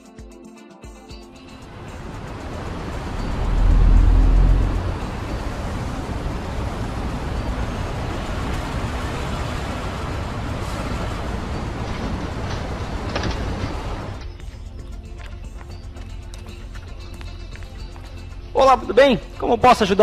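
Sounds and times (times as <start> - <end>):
soft background music: 0.0 - 20.0
car engine and road rumble: 1.6 - 17.8.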